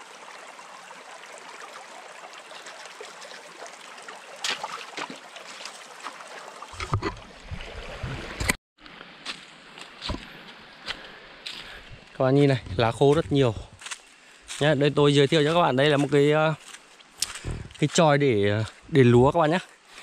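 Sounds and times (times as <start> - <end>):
stream water running: 0.0 - 20.0.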